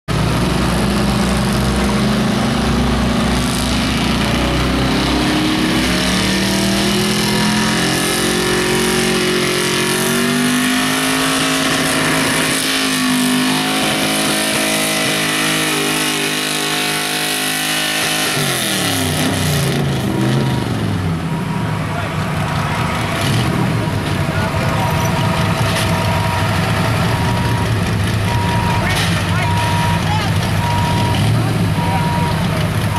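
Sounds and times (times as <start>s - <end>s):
pickup engine at full throttle: 0.1s - 32.9s.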